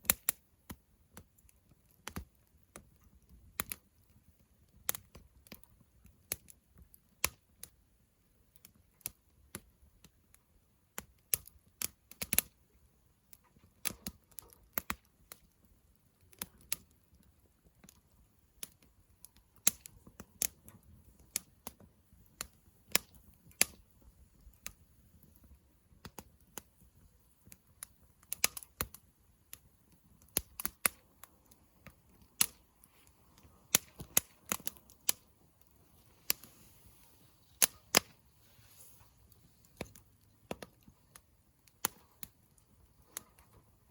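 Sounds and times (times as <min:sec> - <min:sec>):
campfire crackling and popping: 0:00.0 - 0:43.9
low rumble of burning: 0:00.0 - 0:43.9.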